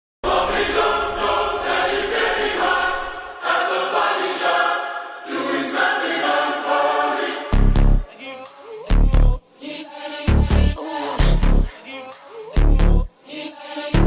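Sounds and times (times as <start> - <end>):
choir singing held chords: 0.2 - 14.0.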